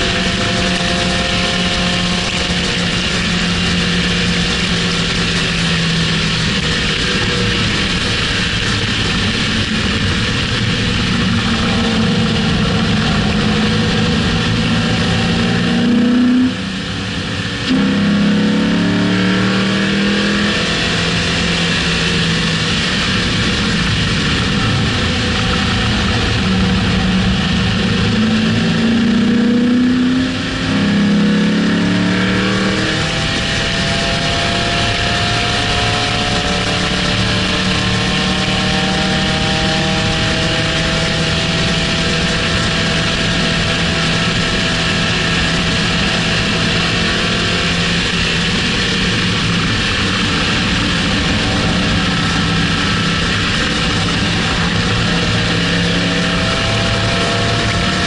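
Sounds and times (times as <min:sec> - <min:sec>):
car engine revving hard: 0:00.0 - 0:58.0
wind noise: 0:00.0 - 0:58.0.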